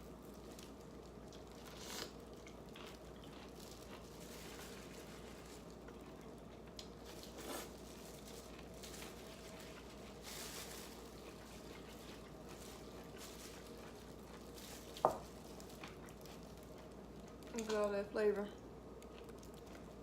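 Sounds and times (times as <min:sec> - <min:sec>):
faint steady hum: 0:00.0 - 0:20.0
soft chewing: 0:00.1 - 0:20.0.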